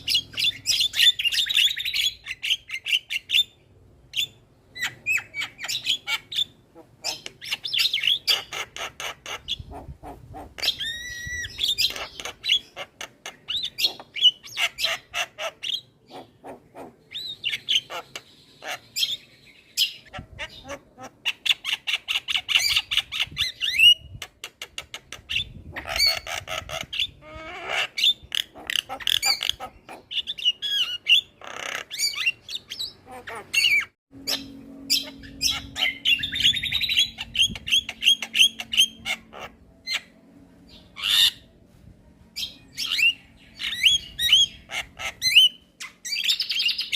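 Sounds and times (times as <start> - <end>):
bird chattering song: 0.0 - 41.5, 42.4 - 46.9.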